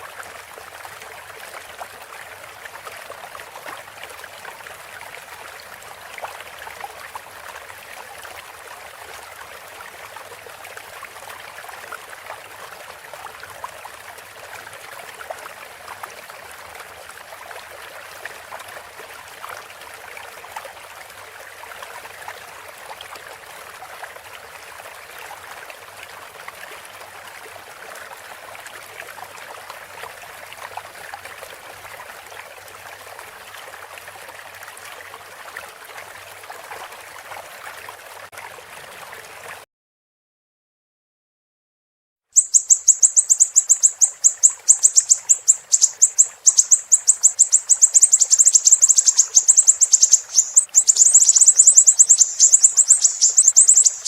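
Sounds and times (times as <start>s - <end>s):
water trickling and babbling: 0.0s - 39.6s, 42.4s - 54.0s.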